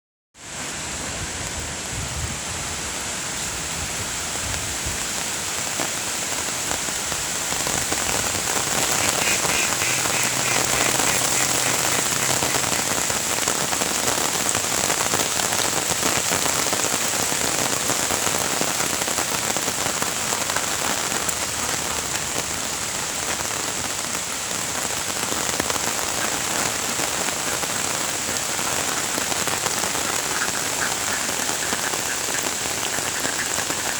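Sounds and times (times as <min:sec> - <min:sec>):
rain falling on lake water: 0:00.4 - 0:33.9.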